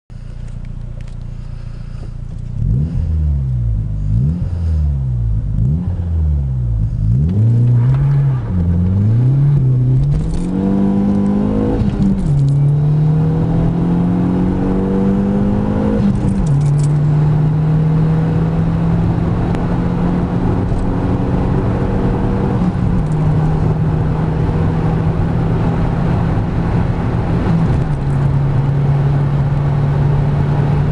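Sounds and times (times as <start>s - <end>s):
car engine accelerating hard: 0.4s - 30.9s.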